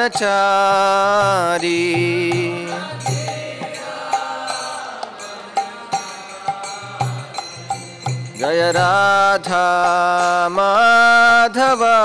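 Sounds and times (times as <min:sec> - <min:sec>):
harmonium chords: 0:00.0 - 0:12.0
sharp percussion strikes: 0:00.0 - 0:12.0.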